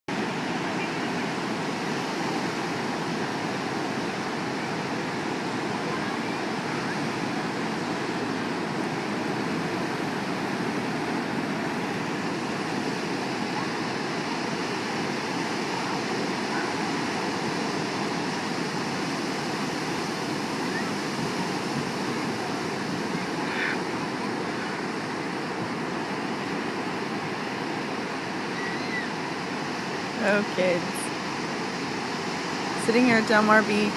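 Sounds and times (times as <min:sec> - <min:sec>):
ocean waves breaking: 0:00.1 - 0:33.9.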